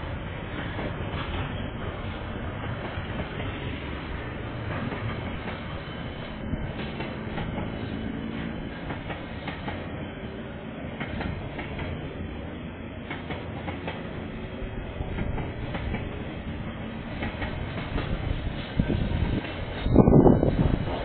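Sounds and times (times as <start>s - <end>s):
train wagons rumbling: 0.0s - 21.0s.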